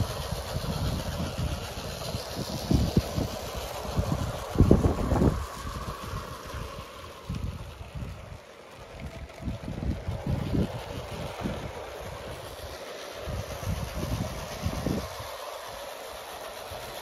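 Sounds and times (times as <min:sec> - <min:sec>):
wind buffeting microphone: 0:00.0 - 0:15.8
clockwork toy train running: 0:00.0 - 0:17.0.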